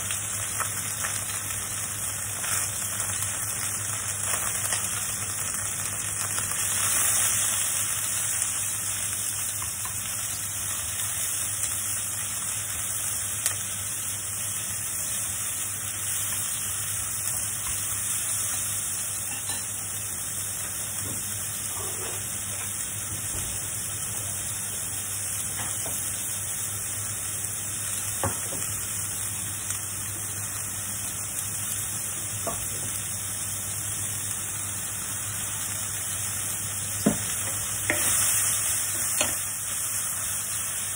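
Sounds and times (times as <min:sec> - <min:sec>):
onions and pork sizzling in oil: 0:00.0 - 0:40.9.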